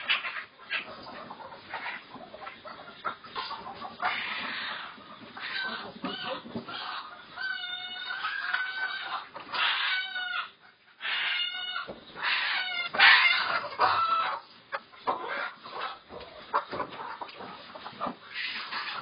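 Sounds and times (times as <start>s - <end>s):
hens squawking and clucking: 0.0s - 19.0s.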